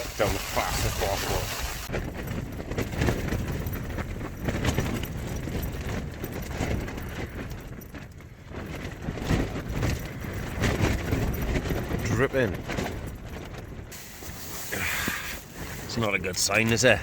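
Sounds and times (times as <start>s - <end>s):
tent fabric flapping: 0.0s - 17.0s
wind gusting: 0.0s - 17.0s
wind rumbling on microphone: 0.0s - 17.0s.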